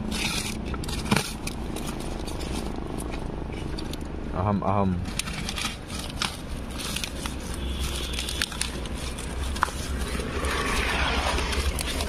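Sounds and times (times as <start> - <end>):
cardboard and stretch wrap rustling: 0.0 - 4.0, 5.0 - 12.0
small clicks and crinkles: 0.0 - 4.1, 5.0 - 12.0.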